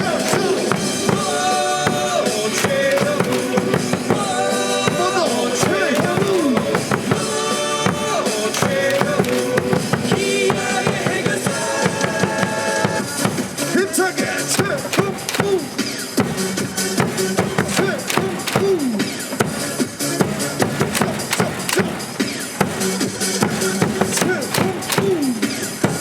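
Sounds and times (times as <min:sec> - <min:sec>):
cheer music with drum beat: 0:00.0 - 0:26.0.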